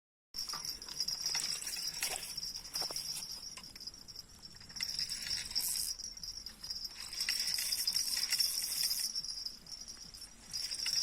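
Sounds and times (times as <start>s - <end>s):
insects chirping trill: 0.4s - 11.0s.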